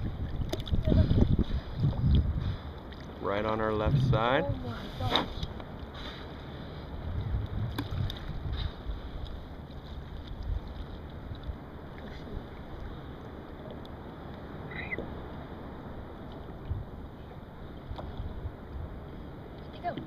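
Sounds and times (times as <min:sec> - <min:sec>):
paddle splashes: 0:00.0 - 0:18.6
water lapping around kayak: 0:00.0 - 0:20.0
wind rumbling on microphone: 0:00.0 - 0:20.0.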